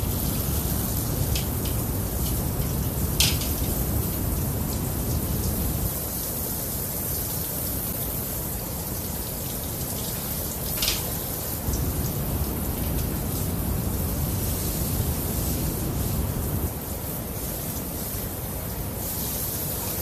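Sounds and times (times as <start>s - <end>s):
shower spray running: 0.0s - 20.0s.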